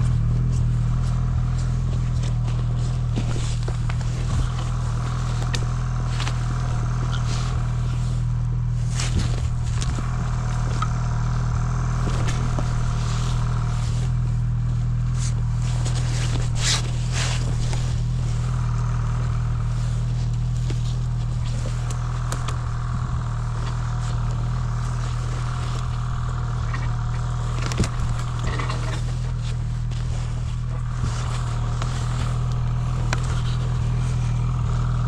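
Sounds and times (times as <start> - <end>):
scraping and rustling: 0.0 - 35.0
snowmobile engine running: 0.0 - 35.0.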